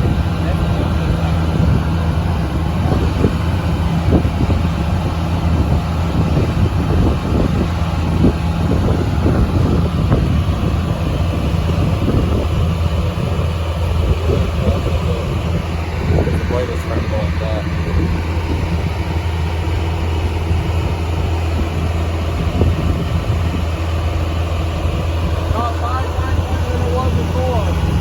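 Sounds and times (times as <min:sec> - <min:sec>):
circular sawmill humming: 0:00.0 - 0:28.0.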